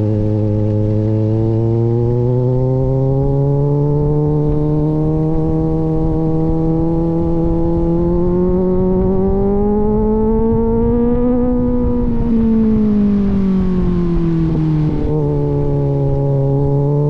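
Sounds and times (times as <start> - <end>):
motorcycle engine revving up: 0.0 - 17.0.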